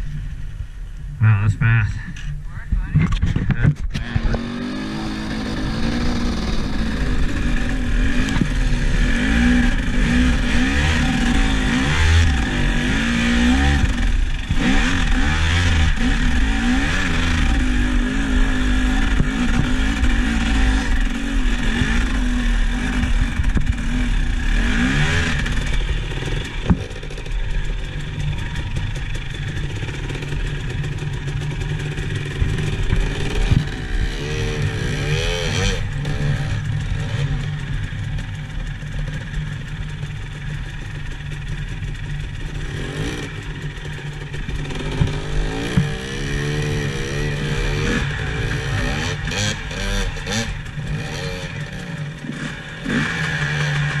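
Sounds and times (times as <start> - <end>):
vehicle engine revving: 1.3 - 54.0.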